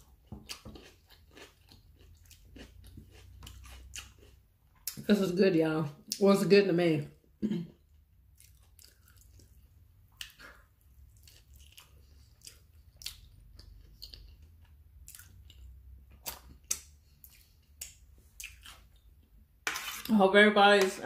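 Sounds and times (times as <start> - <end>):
person chewing food: 0.0 - 5.0, 7.8 - 20.0.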